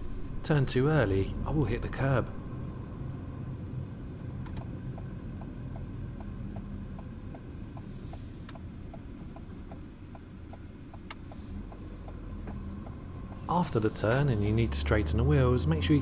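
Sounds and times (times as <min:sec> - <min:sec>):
engine and tyres humming: 0:00.0 - 0:16.0
turn signal ticking: 0:00.4 - 0:16.0.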